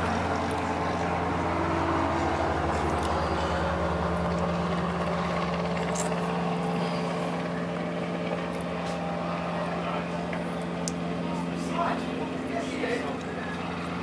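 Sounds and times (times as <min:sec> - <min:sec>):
helicopter hovering: 0:00.0 - 0:14.0
light aircraft engine: 0:00.0 - 0:14.0.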